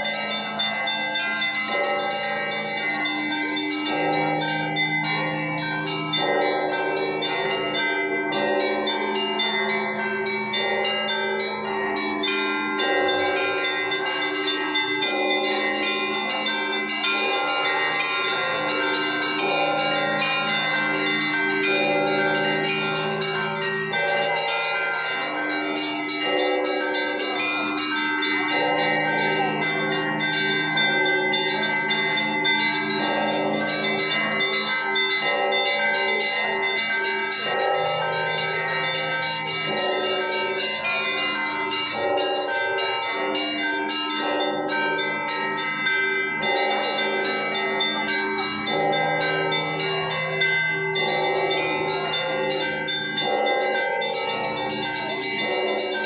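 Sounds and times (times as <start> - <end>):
church bells ringing a peal: 0.0 - 56.0.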